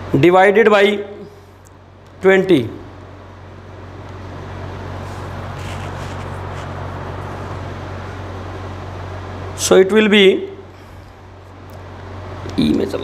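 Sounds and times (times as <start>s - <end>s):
background rumble and hiss: 0.0s - 13.0s.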